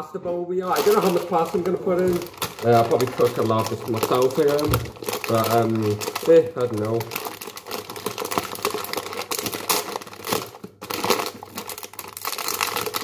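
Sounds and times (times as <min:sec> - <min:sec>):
plastic bag of pasta crinkling: 0:00.7 - 0:13.0.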